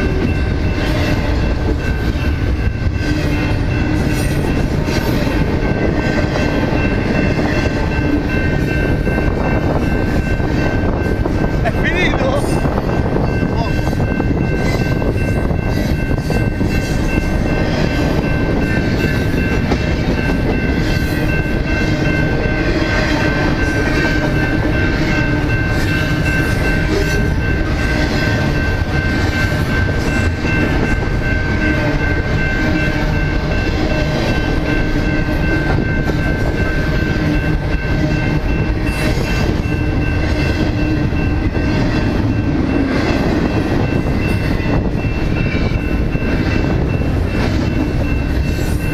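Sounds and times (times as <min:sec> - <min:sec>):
high-pitched ringing tones: 0:00.0 - 0:48.9
train wheels rumbling on rails: 0:00.0 - 0:48.9.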